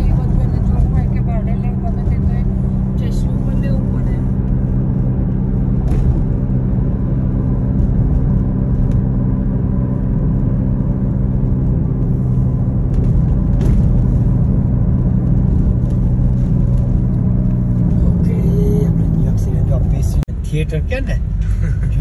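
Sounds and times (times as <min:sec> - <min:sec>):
car engine rumble and road noise: 0:00.0 - 0:22.0
low hum: 0:00.0 - 0:22.0.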